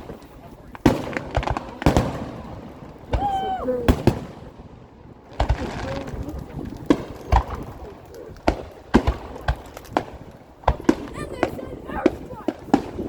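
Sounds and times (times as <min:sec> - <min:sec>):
faint voices of onlookers: 0:00.0 - 0:13.0
fireworks bangs: 0:00.0 - 0:13.0.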